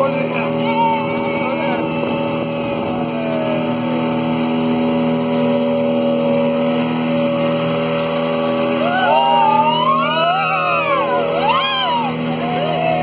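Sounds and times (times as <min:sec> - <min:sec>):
outboard motor running: 0:00.0 - 0:13.0
rushing water and wind: 0:00.0 - 0:13.0.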